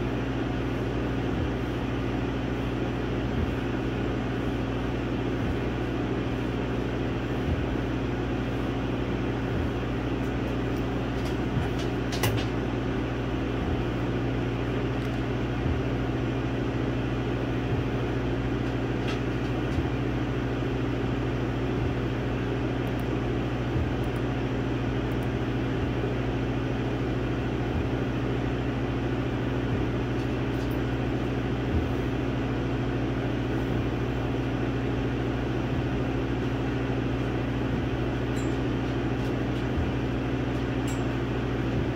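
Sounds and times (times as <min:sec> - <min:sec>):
laser engraver humming: 0:00.0 - 0:41.9.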